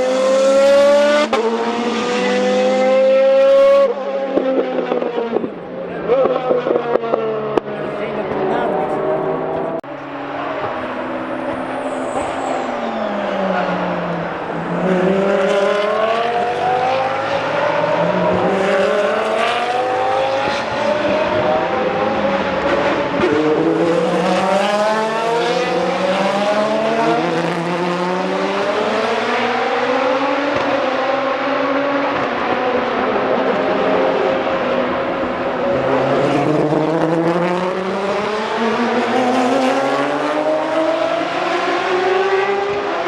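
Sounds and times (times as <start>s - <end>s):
race car engines accelerating: 0.0s - 43.0s.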